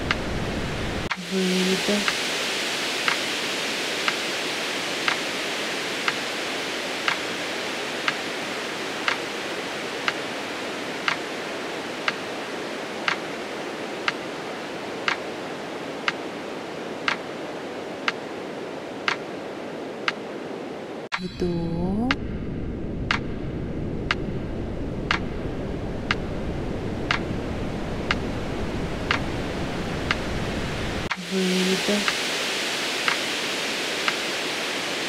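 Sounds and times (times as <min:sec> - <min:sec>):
steady hiss: 0:00.0 - 0:22.1, 0:23.1 - 0:35.0.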